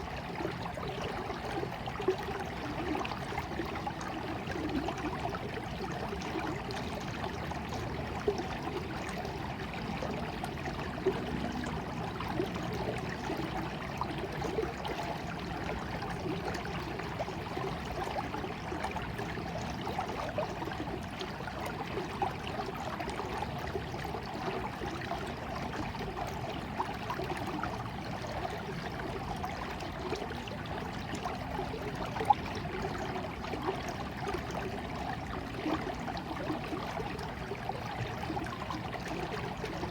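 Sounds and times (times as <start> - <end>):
stream water trickling: 0.0 - 39.9
water splashes: 0.0 - 39.9.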